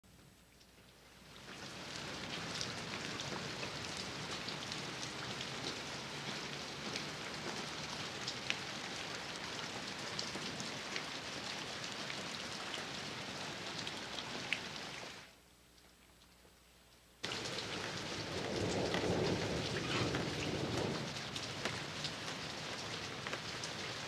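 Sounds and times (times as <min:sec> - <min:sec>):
raindrops ticking on hard surface: 0:00.1 - 0:15.1, 0:15.7 - 0:24.0
rain falling: 0:00.1 - 0:15.4, 0:17.2 - 0:24.0.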